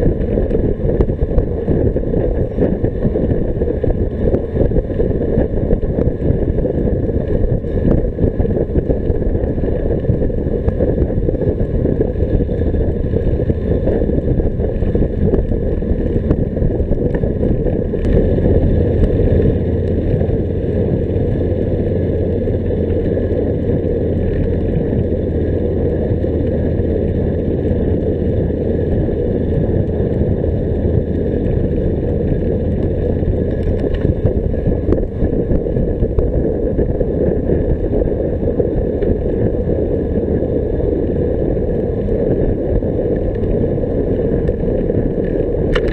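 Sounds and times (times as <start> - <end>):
steady low hum: 0.0 - 45.9
tyre road noise: 0.0 - 45.9
wind rumbling on microphone: 0.0 - 45.9.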